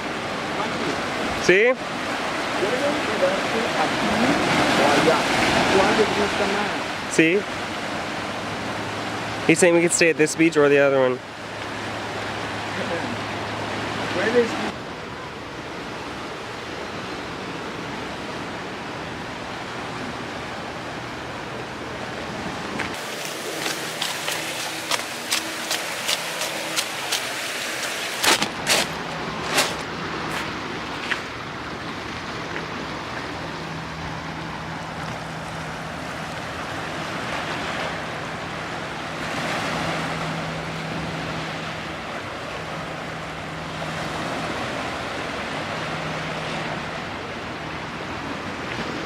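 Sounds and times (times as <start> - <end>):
ocean surf rushing: 0.0 - 49.0.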